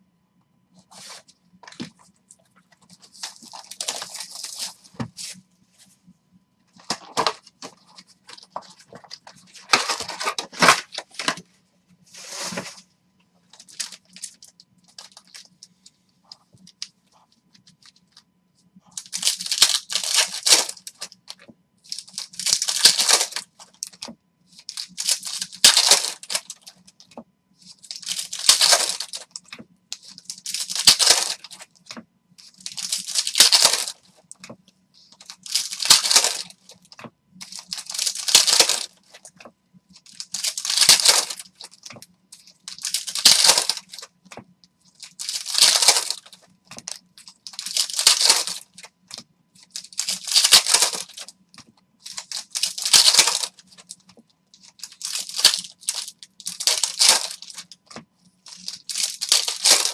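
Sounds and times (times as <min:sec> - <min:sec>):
foil wrappers crinkling: 0:02.8 - 0:05.4, 0:06.8 - 0:11.4, 0:12.2 - 0:12.8, 0:13.5 - 0:18.2, 0:18.9 - 0:51.4, 0:52.0 - 0:59.9.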